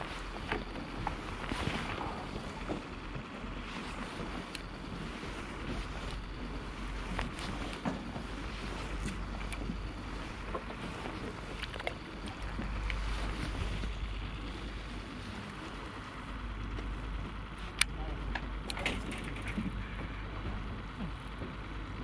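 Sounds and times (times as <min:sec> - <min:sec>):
sea noise: 0:00.0 - 0:20.3
low rumble: 0:00.0 - 0:22.0
wind: 0:00.0 - 0:22.0.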